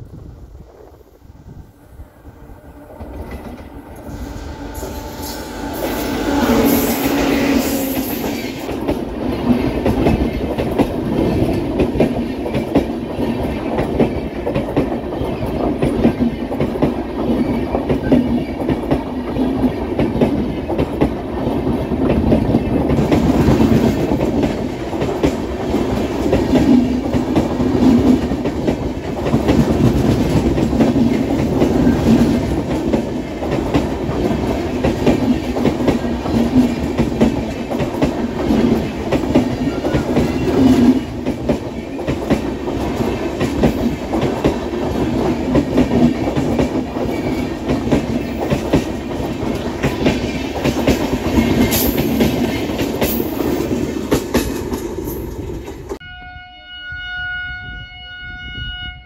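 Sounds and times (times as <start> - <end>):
train wheels rumbling on rail: 0.0 - 56.0
clickety-clack over rail joints: 2.8 - 4.4, 5.6 - 56.0.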